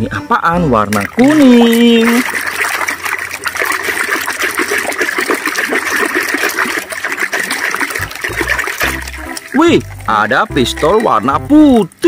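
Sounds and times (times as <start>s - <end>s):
hand sloshing soapy water: 0.8s - 12.0s.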